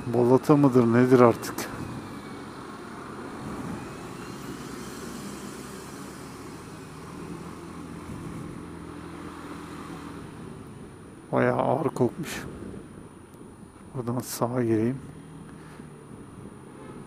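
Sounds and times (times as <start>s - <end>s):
dense motor traffic hum: 0.0s - 17.0s.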